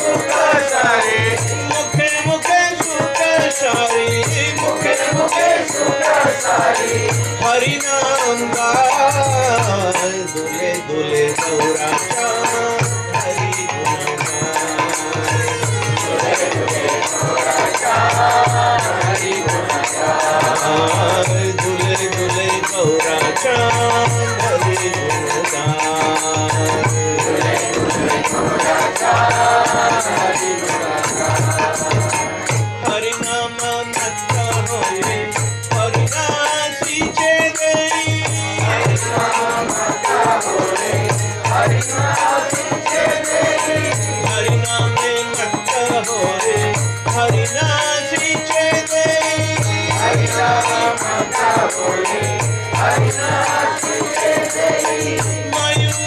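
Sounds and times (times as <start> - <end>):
jingling percussion: 0.0 - 56.0
man singing into a microphone: 0.0 - 56.0.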